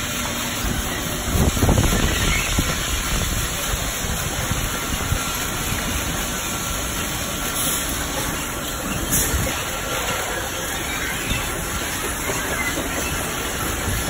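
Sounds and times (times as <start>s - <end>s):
car wash brushes spinning: 0.0s - 14.0s
water spray rushing: 0.0s - 14.0s.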